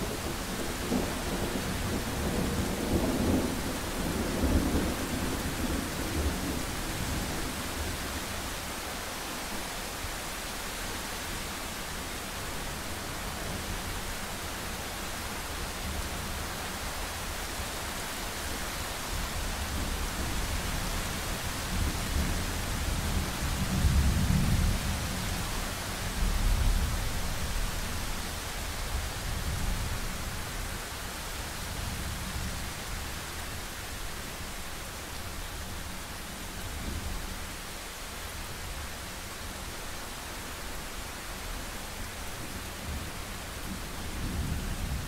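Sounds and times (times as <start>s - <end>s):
rain hiss: 0.0s - 45.0s.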